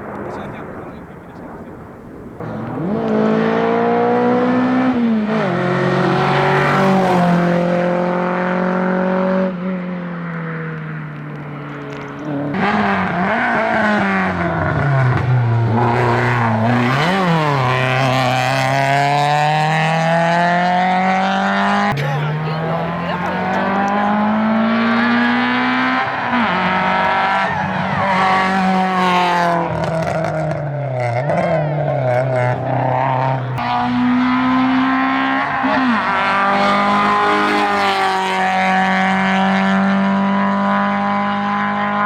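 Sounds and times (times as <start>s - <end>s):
race car engine accelerating: 2.4s - 42.0s
race car engine revving hard: 2.4s - 42.0s.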